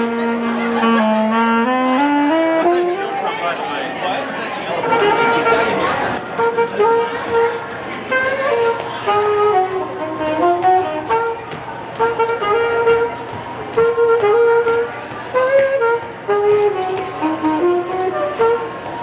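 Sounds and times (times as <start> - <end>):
solo saxophone melody: 0.0 - 3.9, 4.6 - 19.0.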